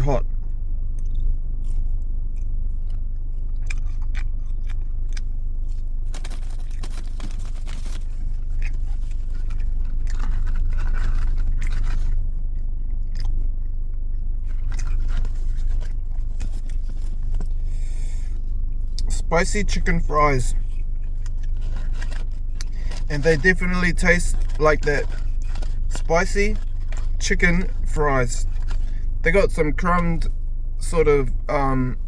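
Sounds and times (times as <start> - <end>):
chewing and crunching food: 0.0 - 32.0
steady low rumble: 0.0 - 32.0.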